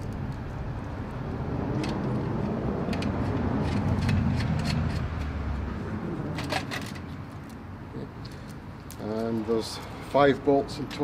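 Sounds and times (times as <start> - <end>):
vehicle engine rumbling: 0.0 - 10.1.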